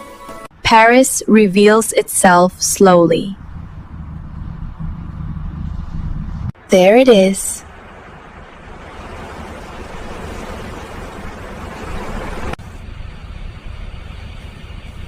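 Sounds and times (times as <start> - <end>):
steady rushing ambient noise: 0.6 - 15.0.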